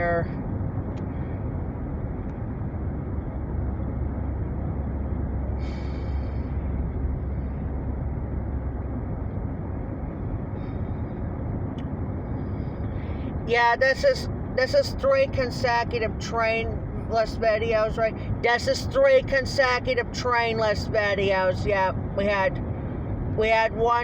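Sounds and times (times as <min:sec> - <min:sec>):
car cabin road and engine noise: 0:00.0 - 0:24.0.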